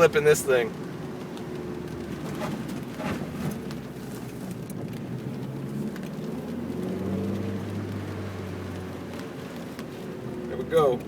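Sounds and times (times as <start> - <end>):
car engine revving: 0.0 - 11.0
rain hissing on wet road: 0.0 - 11.0.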